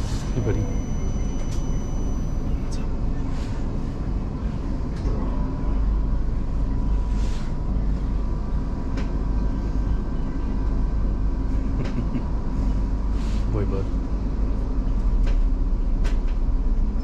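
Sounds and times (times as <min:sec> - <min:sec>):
faint whine: 0:00.0 - 0:17.0
train rumble inside carriage: 0:00.0 - 0:17.0.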